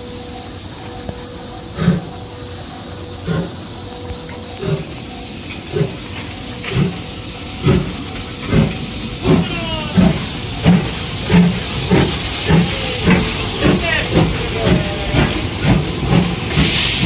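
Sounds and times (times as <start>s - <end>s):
steam hissing: 0.0s - 17.0s
steam locomotive exhaust chuffs: 0.0s - 17.0s.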